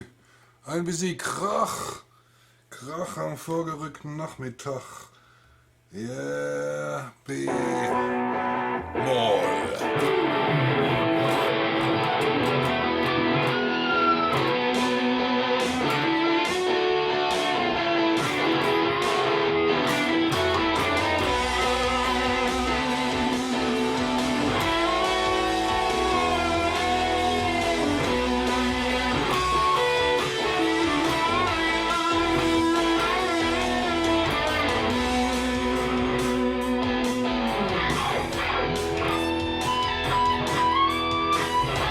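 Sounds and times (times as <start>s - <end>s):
bass line: 7.5s - 41.9s
electric guitar lead: 7.5s - 41.9s
jam backing track: 7.5s - 41.9s.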